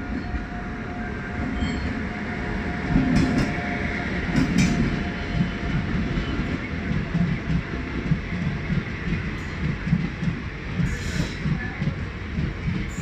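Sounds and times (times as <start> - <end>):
train wheel and rail rumble: 0.0 - 13.0.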